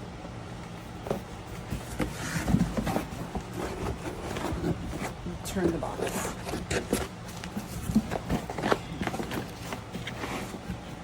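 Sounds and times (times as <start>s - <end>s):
paper and cardboard rustling: 0.5s - 11.0s.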